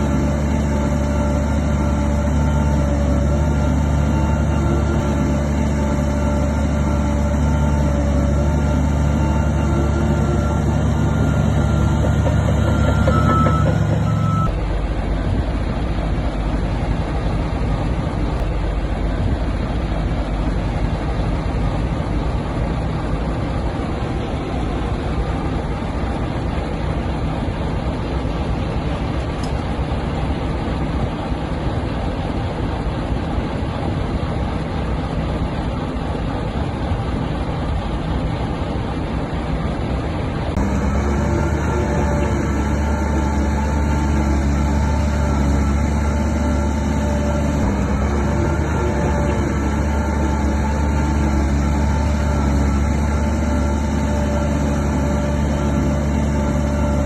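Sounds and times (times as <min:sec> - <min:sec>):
diesel engine rattling under load: 0:00.0 - 0:57.0
steady low drone: 0:00.0 - 0:57.0.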